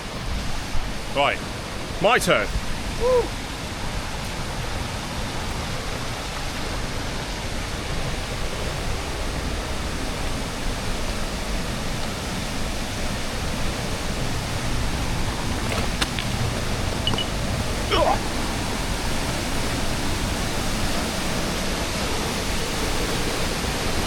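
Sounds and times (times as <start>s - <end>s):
stream and waterfall rushing: 0.0s - 24.0s.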